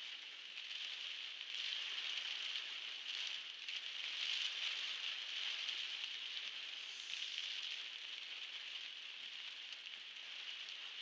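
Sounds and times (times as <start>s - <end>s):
heavy rain on car roof: 0.1s - 11.0s.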